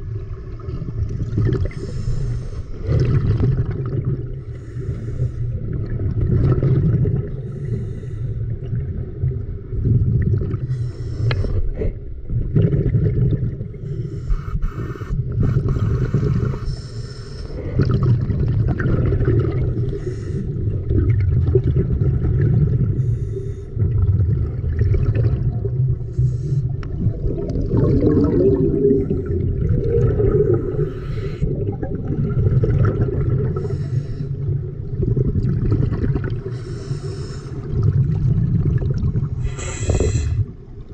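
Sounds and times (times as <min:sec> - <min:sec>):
low water rumble: 0:00.0 - 0:40.9
underwater breathing and bubbles: 0:00.0 - 0:40.9.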